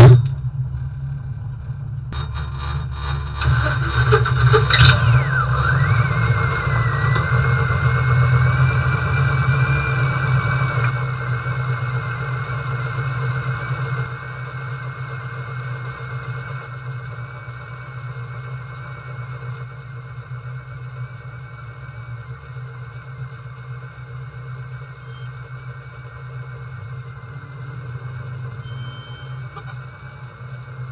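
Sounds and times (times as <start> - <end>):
car engine running at low revs: 0.0 - 30.9
high steady whine: 0.0 - 30.9.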